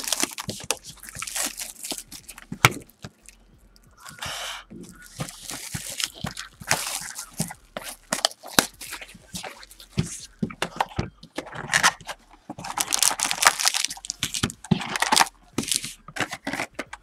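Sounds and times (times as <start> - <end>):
foil packs crinkling and tearing: 0.0 - 3.4, 4.9 - 10.9, 11.5 - 17.0.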